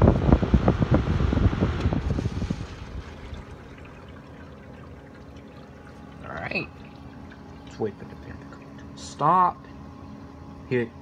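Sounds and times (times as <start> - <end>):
air conditioner low hum: 0.0 - 11.0
fan air buffeting microphone: 0.0 - 11.0.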